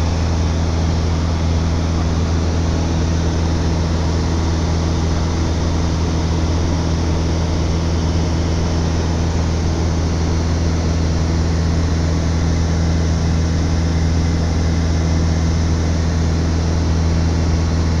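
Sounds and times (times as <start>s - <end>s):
airplane engine and propeller drone: 0.0s - 18.0s.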